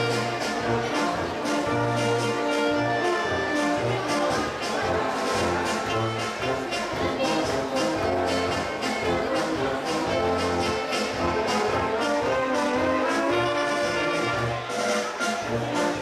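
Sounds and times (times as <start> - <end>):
drum kit beat: 0.0 - 16.0
tuba bass notes: 0.0 - 16.0
wind band playing: 0.0 - 16.0.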